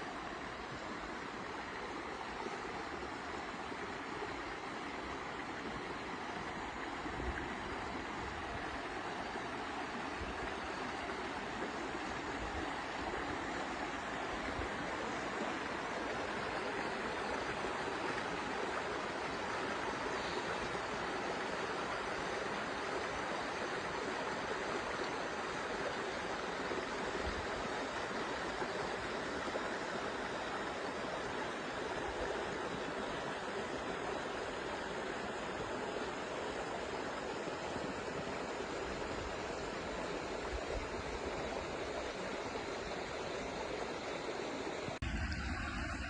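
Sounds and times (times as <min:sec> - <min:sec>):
creek water running: 0:00.0 - 0:46.0.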